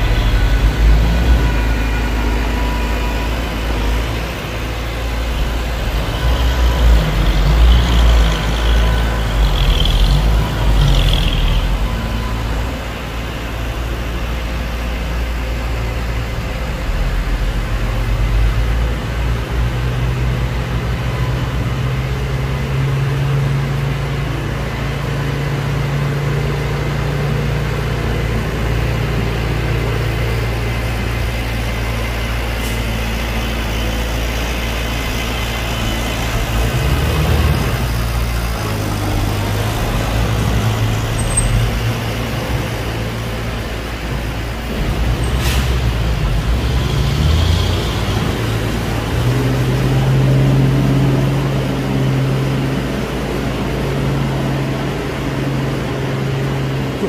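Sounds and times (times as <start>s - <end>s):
diesel earth-moving machinery running: 0.0s - 57.0s.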